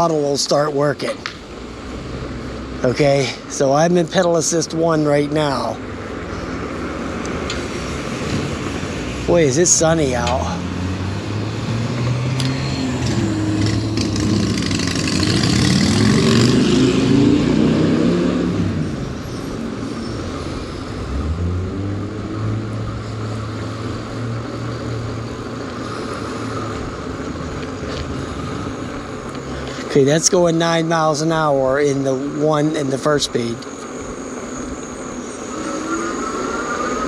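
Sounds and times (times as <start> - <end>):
motor vehicle passing: 0.0 - 37.0
steady hum of road noise: 0.0 - 37.0.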